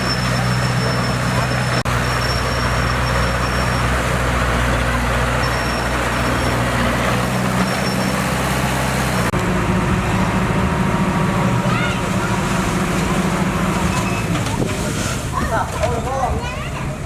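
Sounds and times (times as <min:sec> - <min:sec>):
heavy machinery diesel engine running: 0:00.0 - 0:17.0.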